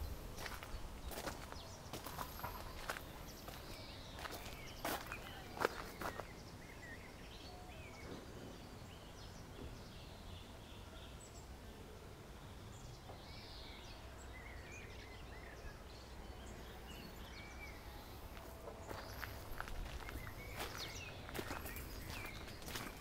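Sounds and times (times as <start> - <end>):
birds chirping and warbling: 0.0 - 23.0
low outdoor rumble: 0.0 - 23.0.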